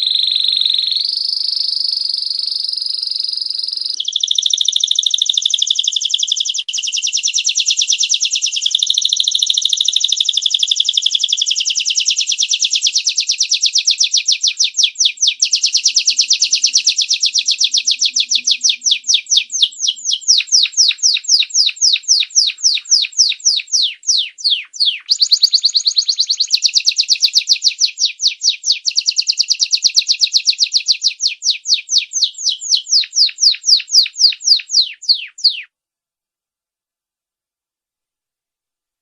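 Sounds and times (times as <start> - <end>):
canary singing: 0.0 - 35.7.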